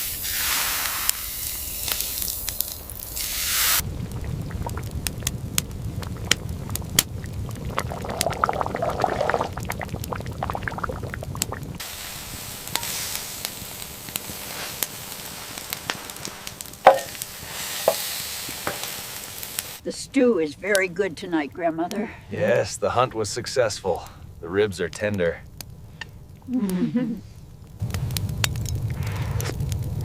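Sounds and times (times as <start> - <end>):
steady hiss with ticks: 0.0 - 8.5, 9.8 - 30.0
food crackling and sizzling: 0.0 - 30.0.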